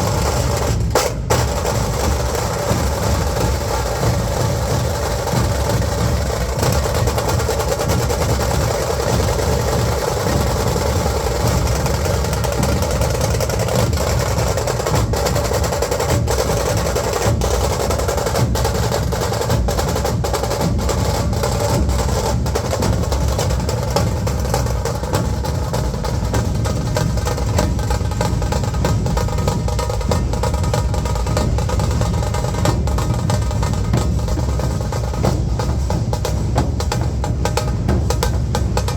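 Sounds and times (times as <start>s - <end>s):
loud fast drumming: 0.0s - 38.9s.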